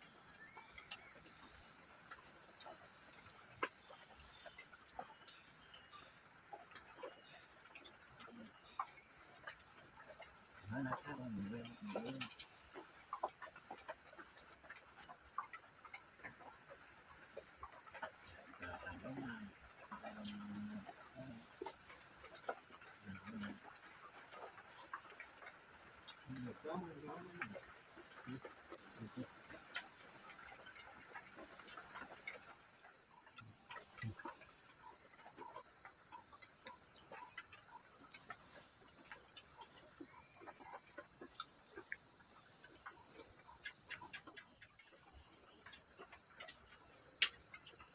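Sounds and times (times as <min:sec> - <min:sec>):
insects chorus: 0:00.0 - 0:47.9.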